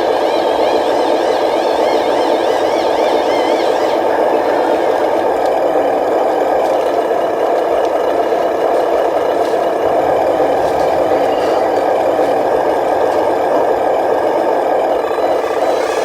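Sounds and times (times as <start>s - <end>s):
warbling high whine: 0.0s - 7.8s, 8.5s - 16.0s
small motors whirring and rattling: 0.0s - 16.0s.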